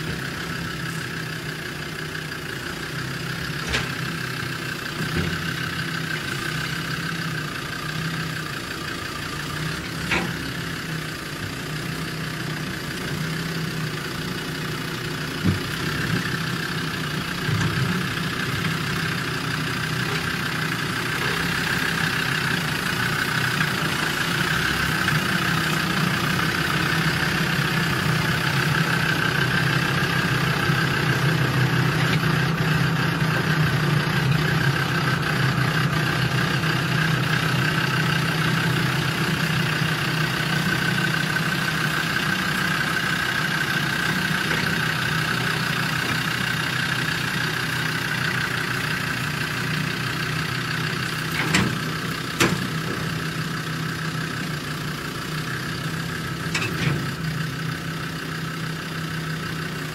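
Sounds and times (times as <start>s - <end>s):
truck engine at low revs: 0.0s - 59.9s.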